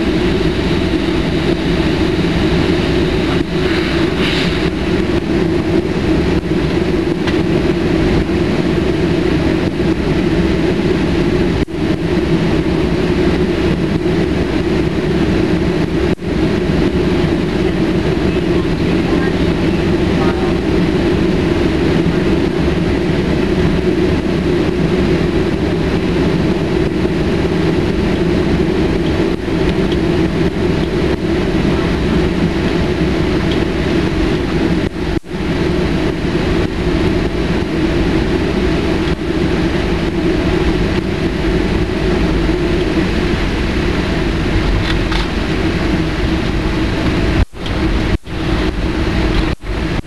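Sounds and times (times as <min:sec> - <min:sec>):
jet engine drone in cabin: 0:00.0 - 0:50.0.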